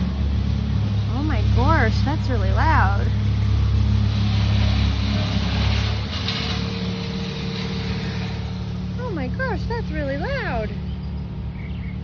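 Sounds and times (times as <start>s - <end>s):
loud truck engine rumble: 0.0s - 12.0s.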